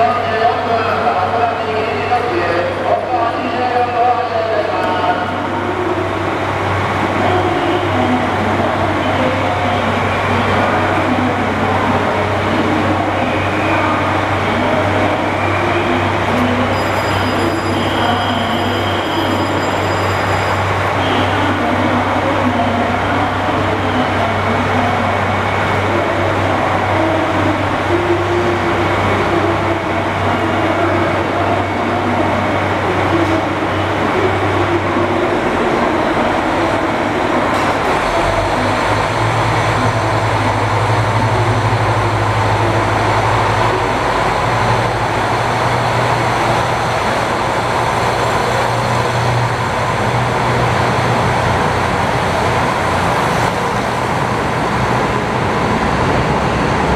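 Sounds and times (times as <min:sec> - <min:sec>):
diesel railcar engines: 0:00.0 - 0:56.9.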